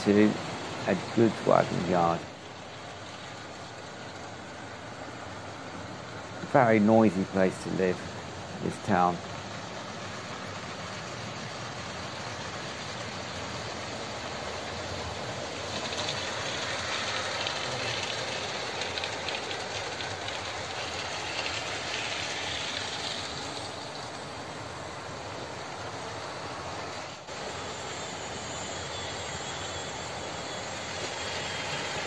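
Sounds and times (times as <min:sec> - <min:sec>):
model trains running on track: 0:00.0 - 0:32.0.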